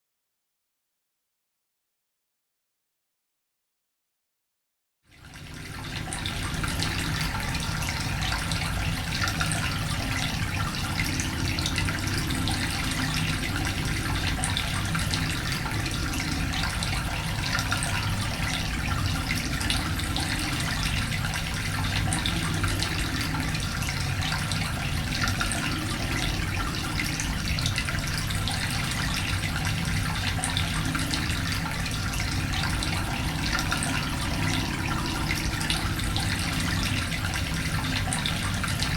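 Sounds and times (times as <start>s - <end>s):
water running: 5.6s - 38.9s.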